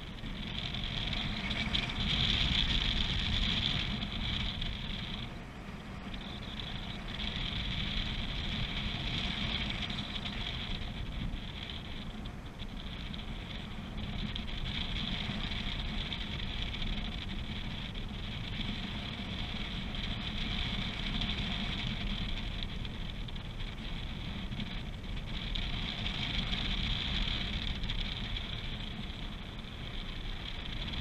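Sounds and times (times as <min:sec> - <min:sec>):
airflow rushing over microphone: 0:00.0 - 0:31.0.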